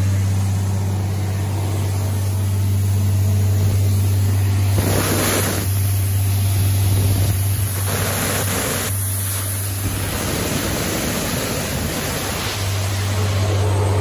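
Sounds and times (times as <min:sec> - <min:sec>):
diesel engine drone: 0:00.0 - 0:14.0
rushing air: 0:00.2 - 0:14.0.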